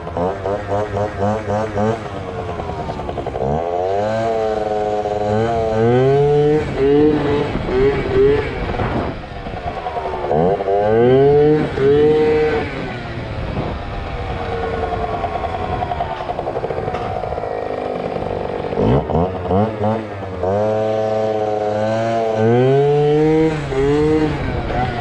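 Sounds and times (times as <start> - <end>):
scooter engine revving: 0.0 - 25.0.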